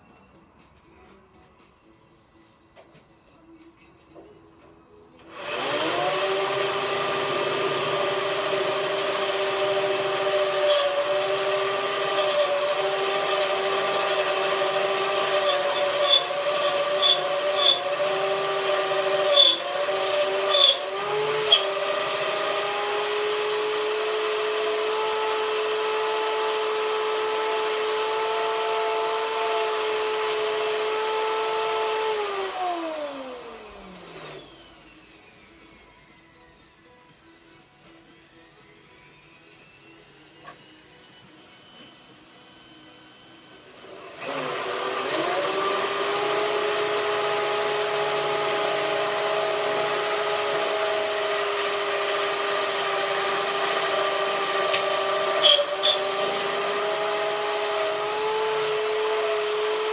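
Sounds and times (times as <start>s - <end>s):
power tool whining: 5.2s - 37.0s, 38.4s - 59.9s.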